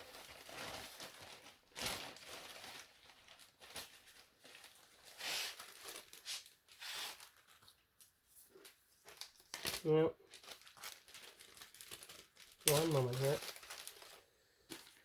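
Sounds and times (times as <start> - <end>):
plastic bag rustling: 0.0 - 15.0.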